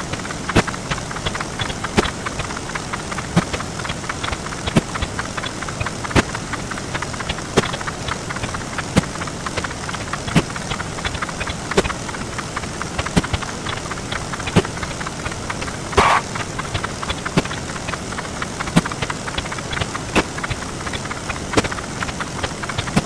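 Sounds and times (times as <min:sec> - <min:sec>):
rapid dense crackle: 0:00.0 - 0:23.0.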